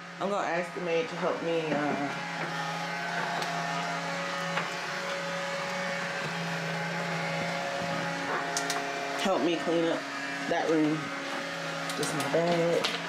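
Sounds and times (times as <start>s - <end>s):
appliance motor humming: 0.0s - 13.0s.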